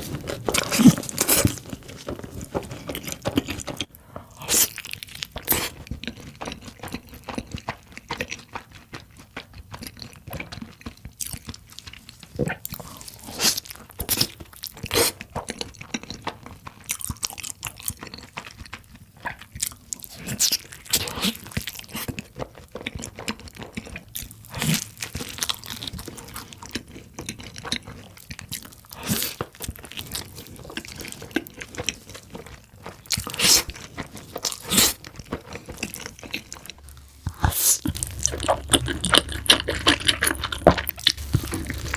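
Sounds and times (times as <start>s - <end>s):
crunching and chewing food: 0.0s - 41.9s.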